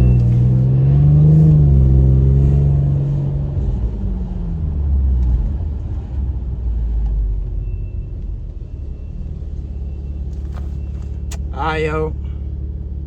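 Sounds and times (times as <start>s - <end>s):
car exhaust rumble: 0.0s - 13.0s.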